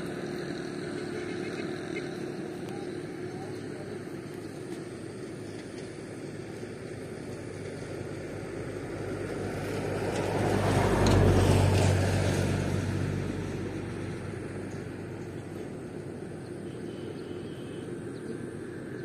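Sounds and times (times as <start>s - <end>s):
vehicle engine passing by: 0.0s - 19.0s.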